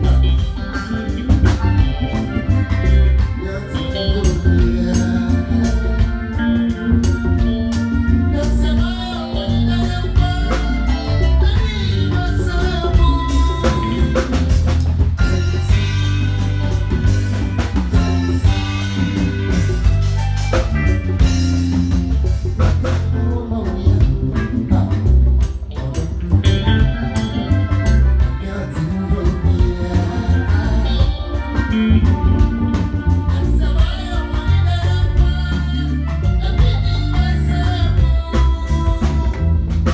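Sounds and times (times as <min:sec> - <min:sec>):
person singing: 0:00.0 - 0:20.0, 0:20.8 - 0:39.9
loud band music: 0:00.0 - 0:39.9.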